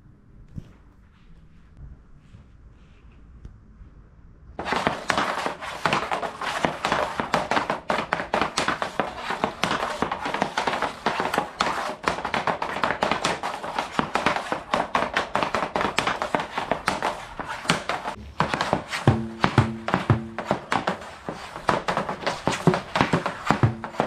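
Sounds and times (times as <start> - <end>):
puck clicking on hockey stick: 4.6 - 24.0.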